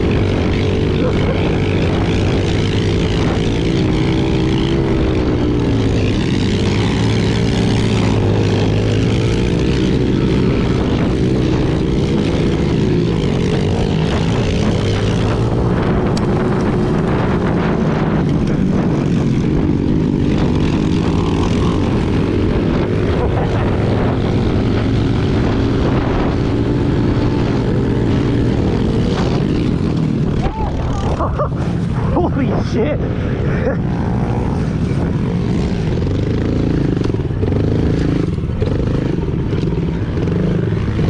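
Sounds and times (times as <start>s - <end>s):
other pit bike engines: 0.0s - 41.0s
pit bike engine revving: 0.0s - 41.0s.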